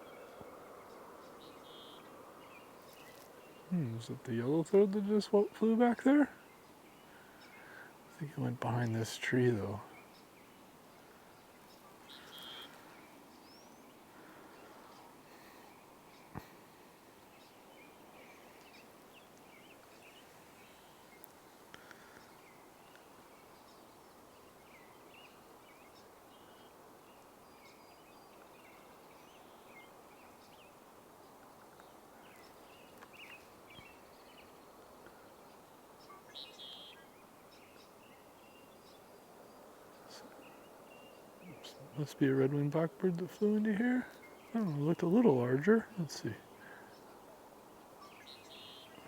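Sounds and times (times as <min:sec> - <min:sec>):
small birds chirping: 0:00.0 - 0:49.0
steady background hiss: 0:00.0 - 0:49.0.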